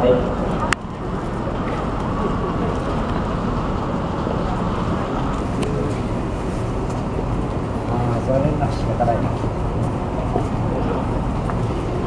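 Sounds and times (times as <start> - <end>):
electric train rumbling: 0.0 - 12.0
faint voices: 0.0 - 12.0.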